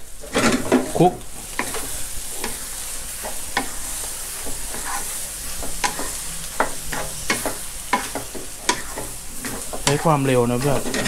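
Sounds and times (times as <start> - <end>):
food sizzling in a wok: 0.0 - 11.0
wooden spatula scraping a pan: 0.2 - 11.0.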